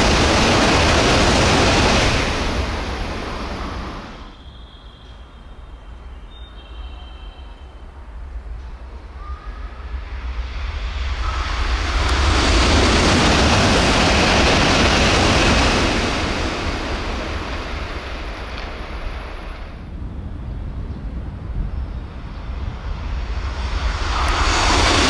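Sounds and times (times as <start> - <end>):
high-speed train passing: 0.0 - 25.0.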